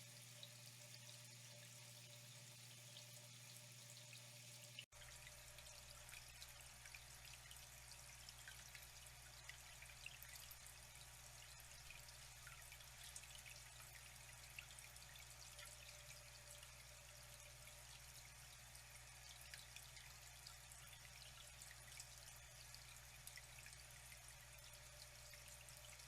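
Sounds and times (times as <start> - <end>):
water drips and splashes: 0.0 - 26.0
water trickling: 0.0 - 26.0.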